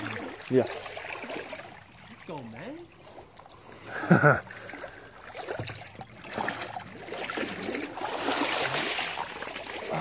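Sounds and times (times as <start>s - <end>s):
creek water sloshing and splashing: 0.0s - 10.0s.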